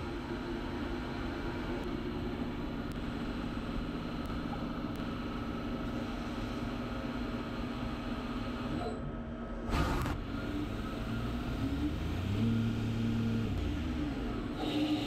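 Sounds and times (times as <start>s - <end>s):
machine tool electric hum: 0.0s - 15.0s.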